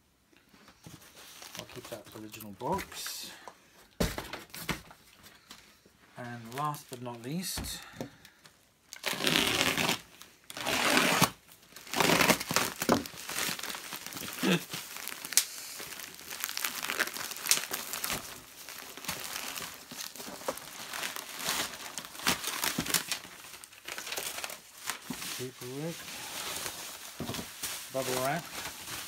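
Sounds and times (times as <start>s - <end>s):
packaging crinkling and rustling: 0.6s - 5.6s, 8.2s - 29.0s.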